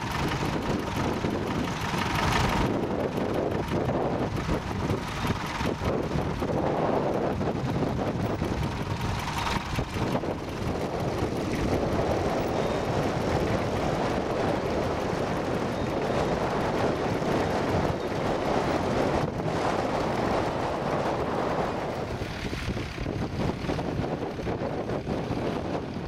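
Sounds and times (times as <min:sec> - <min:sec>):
tractor engine running under load: 0:00.0 - 0:26.0.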